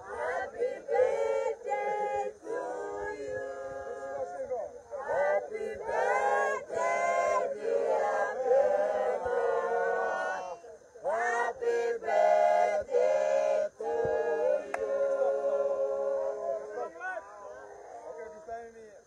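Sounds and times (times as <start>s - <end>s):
group singing: 0.0s - 18.4s.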